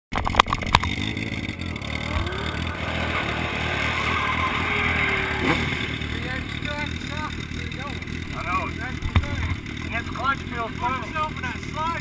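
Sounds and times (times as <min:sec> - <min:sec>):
motorcycle engine idling: 0:00.3 - 0:12.0.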